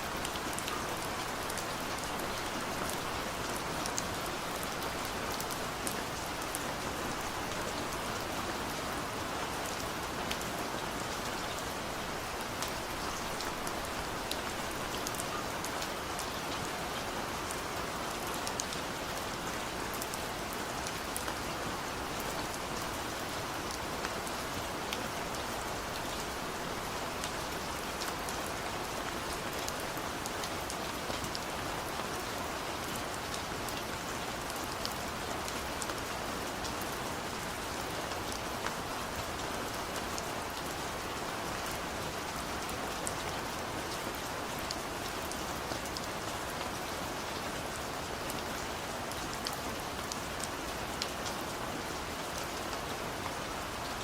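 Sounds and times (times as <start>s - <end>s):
heavy rain on leaves: 0.0s - 54.0s.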